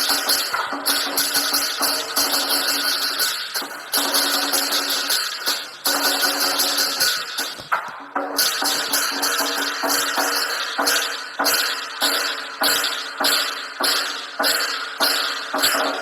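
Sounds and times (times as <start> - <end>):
clashing cymbals: 0.0 - 16.0
drum beats: 0.0 - 16.0.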